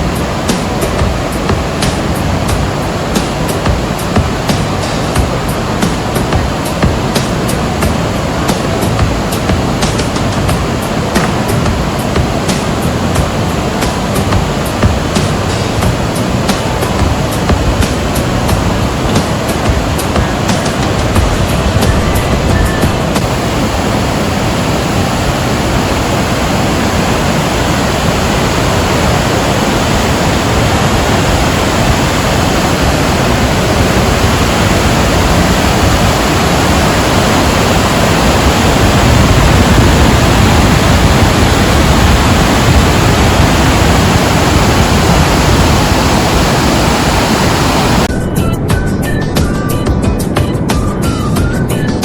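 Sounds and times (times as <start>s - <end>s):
waterfall roaring: 0.0s - 48.1s.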